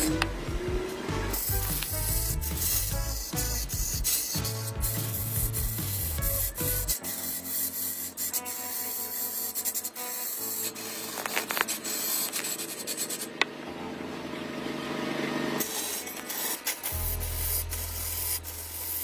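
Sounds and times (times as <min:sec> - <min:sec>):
blade scraping spinning log: 0:01.3 - 0:13.5, 0:15.6 - 0:19.0.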